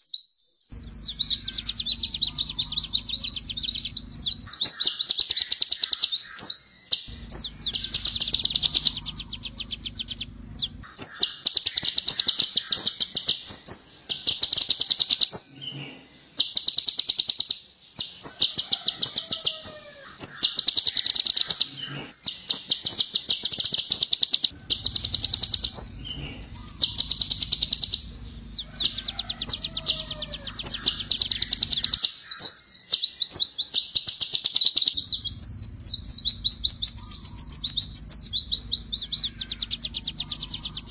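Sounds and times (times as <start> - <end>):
bird singing rapid high trills: 0.0 - 40.9.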